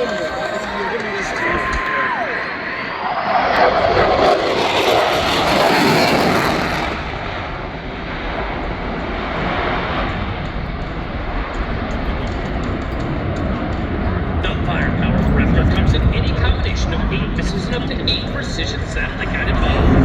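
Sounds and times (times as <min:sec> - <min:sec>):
airplane engine passing low: 0:00.0 - 0:20.0.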